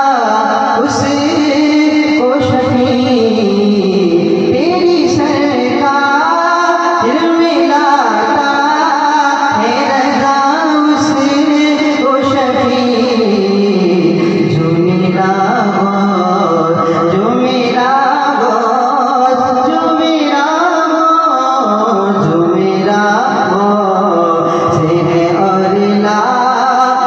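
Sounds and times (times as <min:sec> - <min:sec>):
man singing into a microphone: 0:00.0 - 0:27.0.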